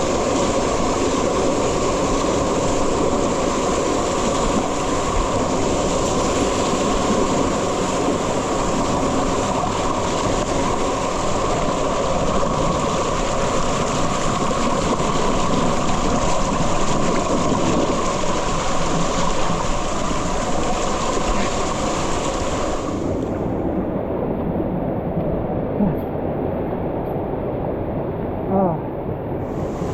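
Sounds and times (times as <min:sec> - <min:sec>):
waterfall rushing: 0:00.0 - 0:24.2.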